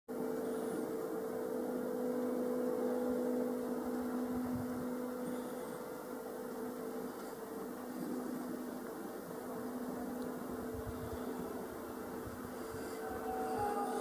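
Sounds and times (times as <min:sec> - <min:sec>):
distant train hum: 0:00.1 - 0:14.0.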